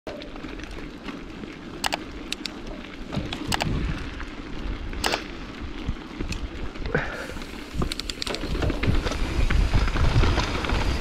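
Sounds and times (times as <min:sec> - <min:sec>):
bike clicks and clatters: 0:00.1 - 0:11.0
bike tyres rumbling on dirt: 0:00.1 - 0:11.0.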